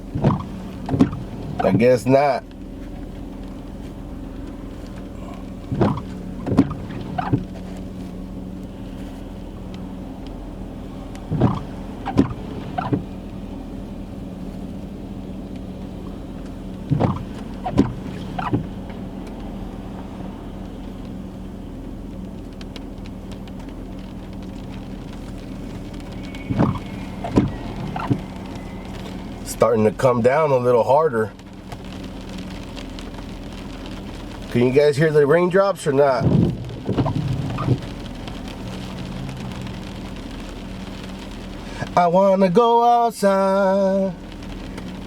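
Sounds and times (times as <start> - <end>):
car engine humming: 0.0 - 45.0
windshield wipers sweeping: 0.0 - 45.0.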